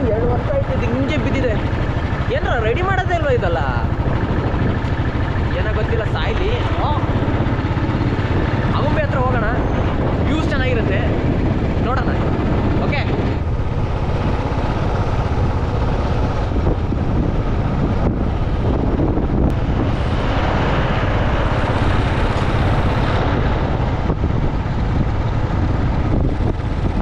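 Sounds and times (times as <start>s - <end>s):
motorcycle engine running: 0.0s - 27.0s
wind rushing over microphone: 0.0s - 27.0s.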